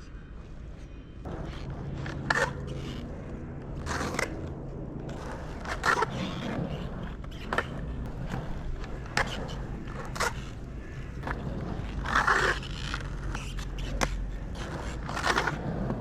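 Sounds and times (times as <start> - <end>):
skateboard wheels rolling: 0.0 - 16.0
skateboard wheels scraping sideways: 1.2 - 16.0.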